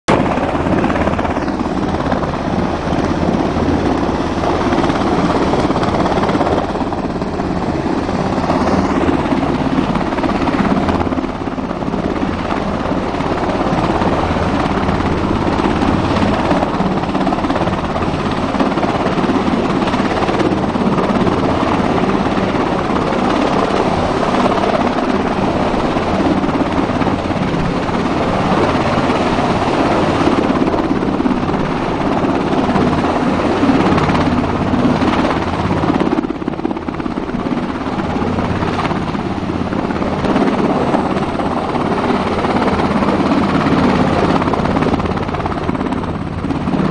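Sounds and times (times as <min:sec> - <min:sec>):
helicopter hovering: 0:00.1 - 0:46.9.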